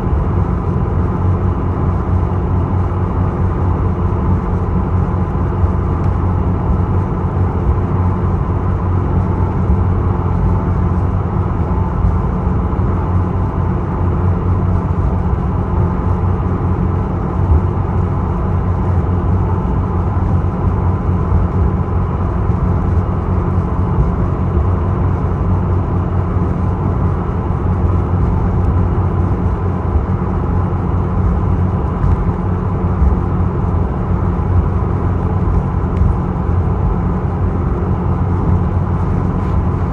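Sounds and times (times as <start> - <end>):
ferry engine droning: 0.0 - 39.9.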